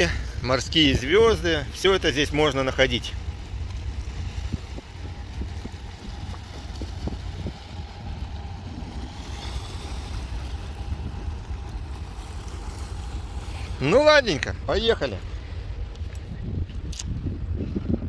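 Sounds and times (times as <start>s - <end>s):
outdoor hiss: 0.0s - 16.2s
wind buffeting microphone: 0.0s - 18.0s.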